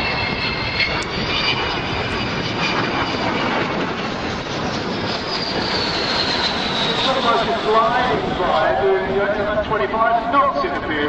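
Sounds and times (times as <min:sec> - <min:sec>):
jet bomber passing: 0:00.0 - 0:11.0.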